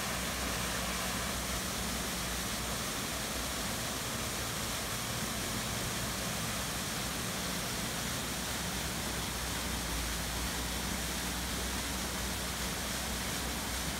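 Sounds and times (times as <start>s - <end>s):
water rushing over rocks: 0.0s - 13.9s.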